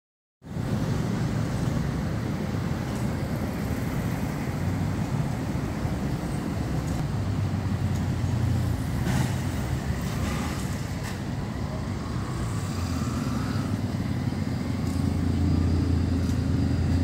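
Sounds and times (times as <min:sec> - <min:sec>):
traffic rumble: 0:00.4 - 0:17.0.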